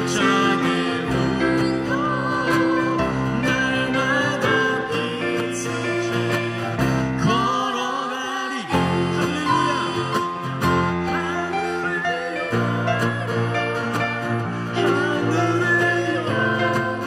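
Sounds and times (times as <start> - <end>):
acoustic guitar strumming: 0.0 - 17.0
man and woman singing: 0.0 - 17.0.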